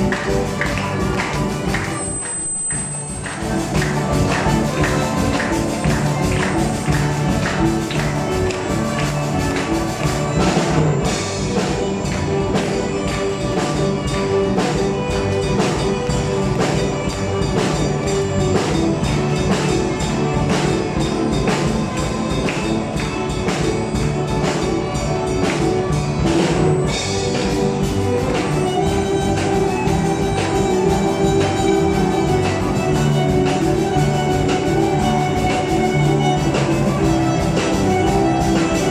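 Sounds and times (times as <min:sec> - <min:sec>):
melodic instruments: 0:00.0 - 0:38.9.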